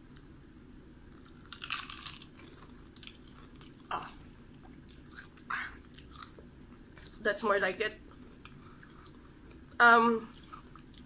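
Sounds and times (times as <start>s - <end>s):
crunchy food being chewed: 1.1s - 7.3s, 8.0s - 11.0s.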